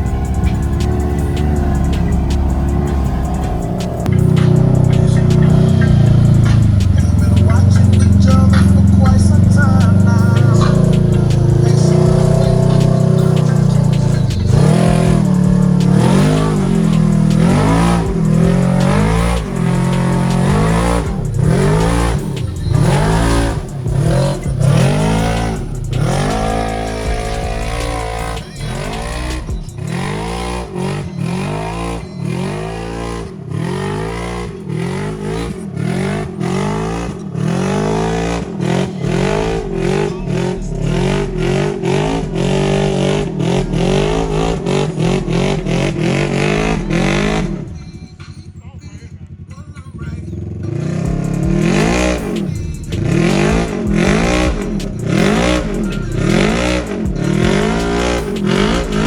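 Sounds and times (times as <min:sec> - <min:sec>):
utv engine revving: 0:00.0 - 0:48.4, 0:50.2 - 0:59.0.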